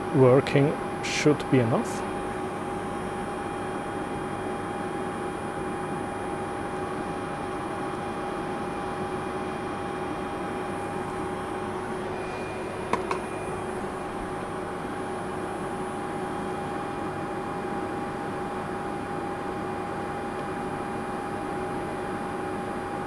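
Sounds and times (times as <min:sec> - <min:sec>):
cooling fans rushing: 0:00.0 - 0:23.0
low and high hum tones: 0:00.0 - 0:23.0.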